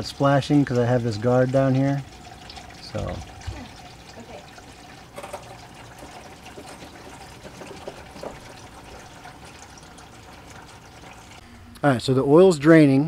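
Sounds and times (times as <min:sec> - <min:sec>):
oil pouring into drain pan: 0:00.0 - 0:11.4.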